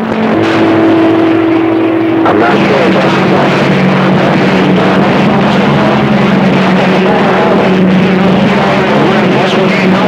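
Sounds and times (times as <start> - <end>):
low humming carrier tone: 0.0 - 10.0
radio static hiss: 0.0 - 10.0
warbling garbled radio signals: 0.0 - 10.0.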